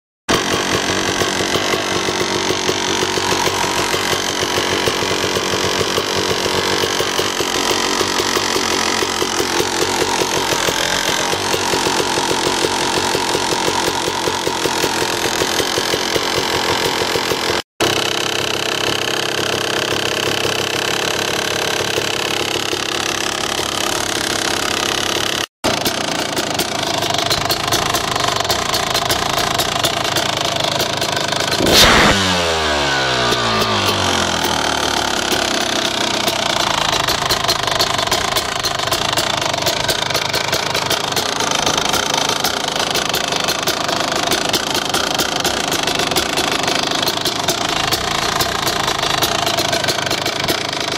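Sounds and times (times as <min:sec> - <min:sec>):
motocross bike engine running: 0:00.3 - 0:50.9.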